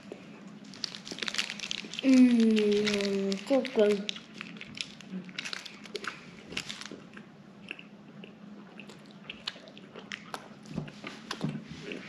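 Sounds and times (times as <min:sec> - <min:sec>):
people chewing chocolate: 0:00.0 - 0:12.0.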